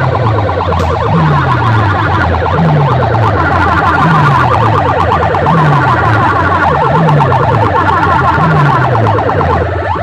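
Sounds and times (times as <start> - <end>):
deep falling bass tone: 0.0 - 10.0
siren-like warbling effect: 0.0 - 10.0.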